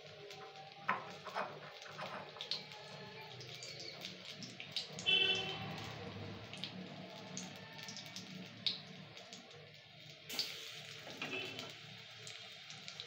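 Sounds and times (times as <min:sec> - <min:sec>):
oil sizzling and popping: 0:00.0 - 0:13.0.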